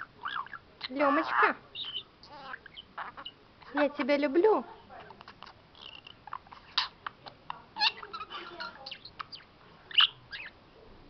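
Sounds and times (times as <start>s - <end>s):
budgerigar warbling: 0.0s - 4.2s, 5.2s - 10.6s.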